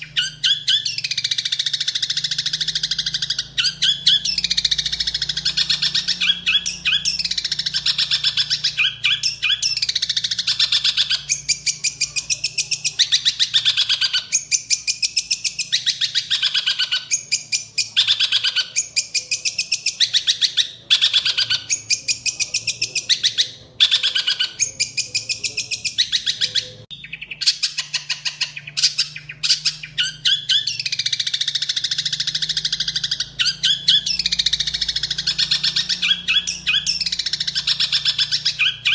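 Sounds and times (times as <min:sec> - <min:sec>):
bird singing chattering phrases: 0:00.0 - 0:38.9.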